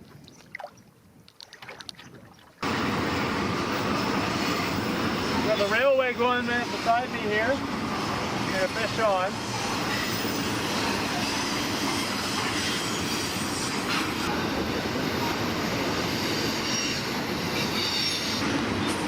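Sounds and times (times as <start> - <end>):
train wheels rumbling on rails: 2.6 - 19.0
high wheel squeal: 3.2 - 19.0.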